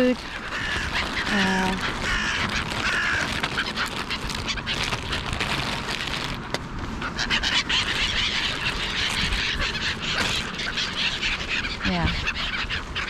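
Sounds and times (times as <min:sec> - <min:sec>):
seagulls and crows calling: 0:00.0 - 0:13.0.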